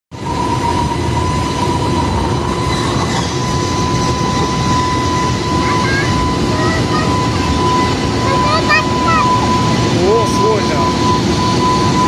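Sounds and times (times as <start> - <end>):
locomotive high whine: 0.1 - 12.0
train wheels rumbling on rail: 0.1 - 12.0.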